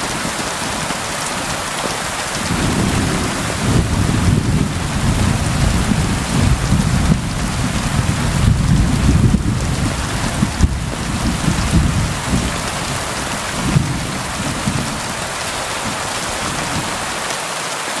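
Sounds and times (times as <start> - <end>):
rain on a window: 0.0 - 18.0.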